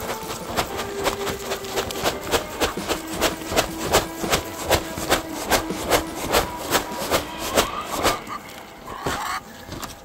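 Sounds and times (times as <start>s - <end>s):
footsteps on dirt and leaves: 0.0s - 10.0s.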